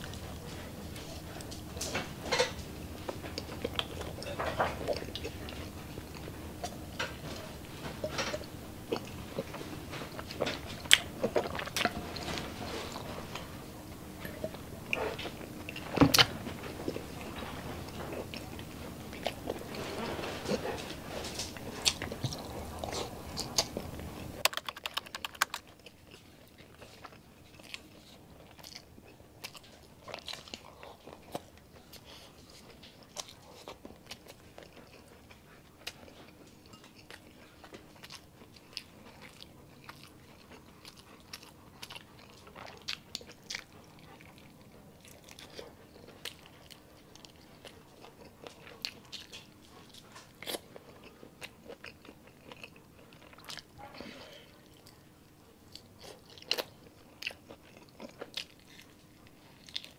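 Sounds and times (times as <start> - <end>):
person chewing and biting food: 0.0 - 53.8, 55.7 - 59.9.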